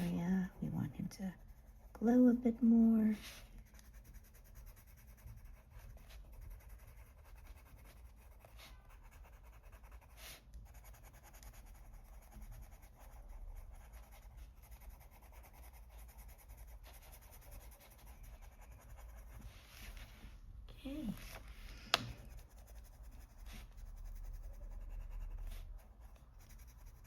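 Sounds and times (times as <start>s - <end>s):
pencil scratching on paper: 0.0s - 20.3s, 21.0s - 27.0s.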